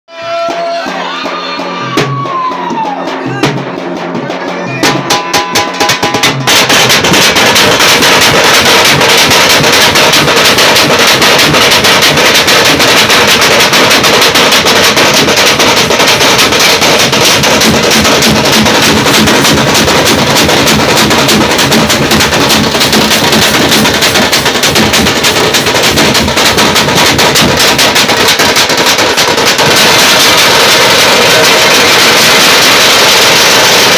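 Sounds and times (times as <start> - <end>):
drum band playing: 0.1 - 33.9.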